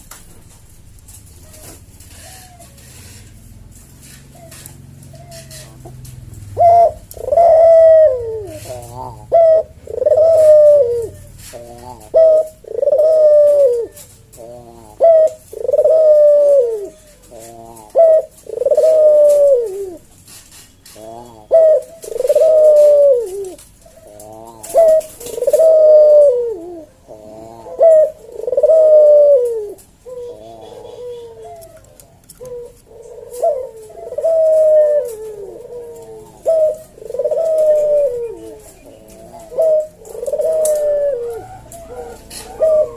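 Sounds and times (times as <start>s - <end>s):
dove cooing: 1.1s - 42.9s.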